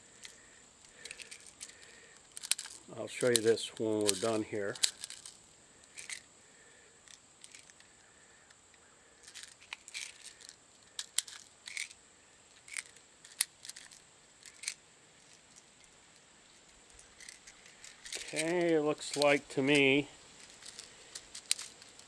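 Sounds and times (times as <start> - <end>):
small plastic pellets clicking: 0.2 - 6.3, 7.0 - 12.0, 12.6 - 15.9, 16.7 - 22.0.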